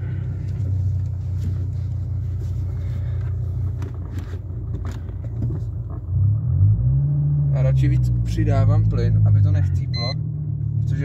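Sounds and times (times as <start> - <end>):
diesel car engine droning: 0.0 - 11.0.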